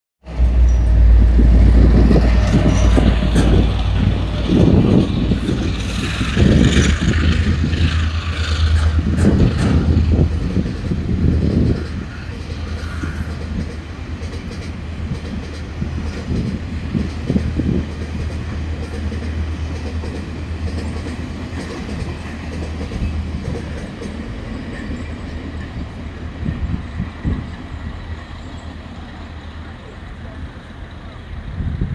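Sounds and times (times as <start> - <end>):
train rolling past: 0.2 - 31.9
freight train wheels clacking: 0.3 - 31.9.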